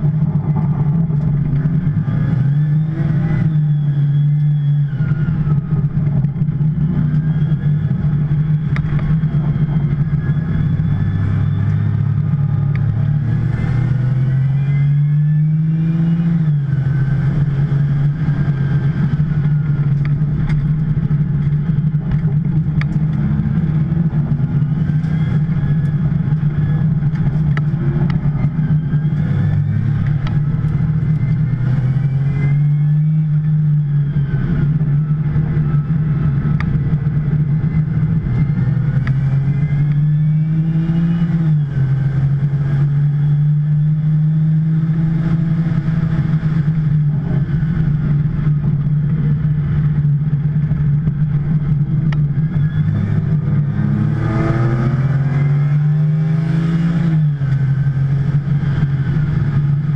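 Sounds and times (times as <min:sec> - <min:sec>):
sports car engine accelerating: 0:00.0 - 0:59.9.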